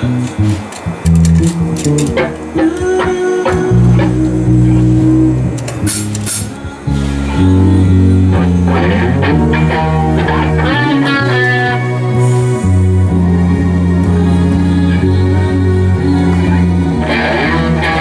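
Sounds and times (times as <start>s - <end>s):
band rehearsing: 0.0s - 18.0s
electric guitar playing: 0.0s - 18.0s.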